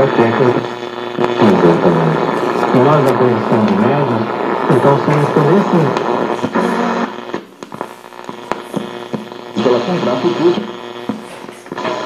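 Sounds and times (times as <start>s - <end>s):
broadcast voice from radio speaker: 0.0s - 12.0s
mains hum: 0.0s - 12.0s
radio crackle and clicks: 0.0s - 12.0s.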